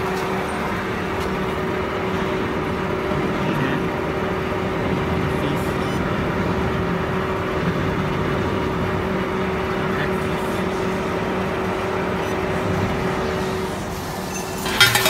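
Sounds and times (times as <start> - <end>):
constant machine tone: 0.0 - 15.0.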